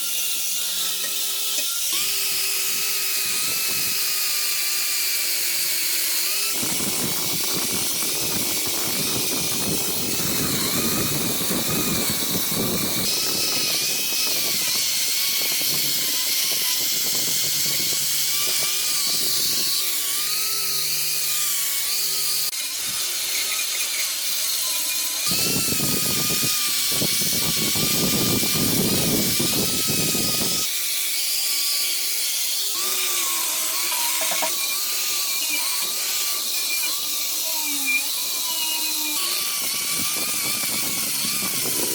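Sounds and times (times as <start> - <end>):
power tool motor whine: 0.0 - 41.9
tool grinding workpiece: 0.0 - 41.9.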